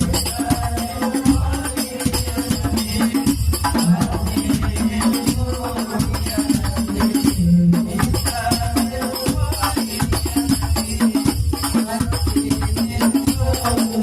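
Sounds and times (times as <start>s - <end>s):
religious music over sound system: 0.0s - 14.0s.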